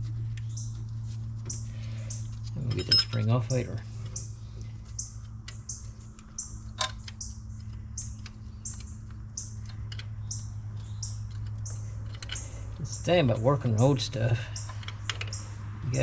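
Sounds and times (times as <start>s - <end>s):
steady low hum: 0.0s - 16.0s
bird chirping: 0.4s - 0.8s, 1.5s - 16.0s.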